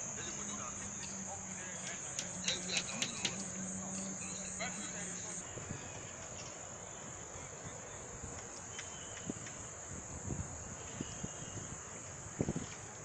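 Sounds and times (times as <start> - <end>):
insects trilling: 0.0 - 12.5.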